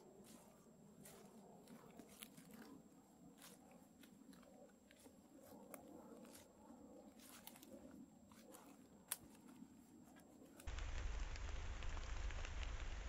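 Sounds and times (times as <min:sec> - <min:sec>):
faint irregular crackles and ticks: 0:00.0 - 0:13.0.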